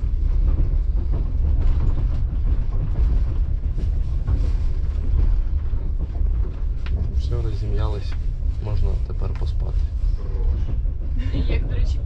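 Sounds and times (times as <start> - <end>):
train carriage rumble and rattle: 0.0 - 12.0.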